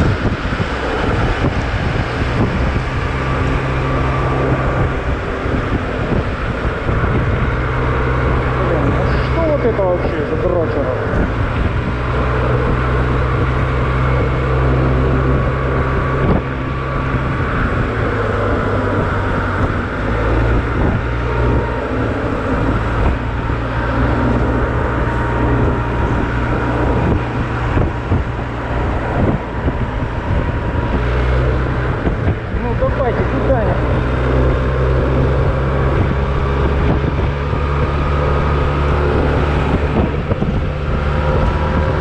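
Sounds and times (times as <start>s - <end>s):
scooter engine drone: 0.0s - 42.0s
wind rumble on microphone: 0.0s - 42.0s.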